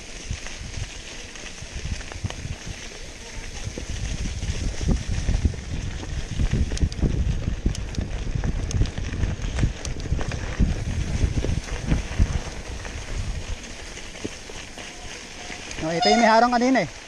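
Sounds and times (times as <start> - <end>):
bike knocking and rattling: 0.0 - 17.0
bike tyres rumbling on dirt: 0.0 - 17.0.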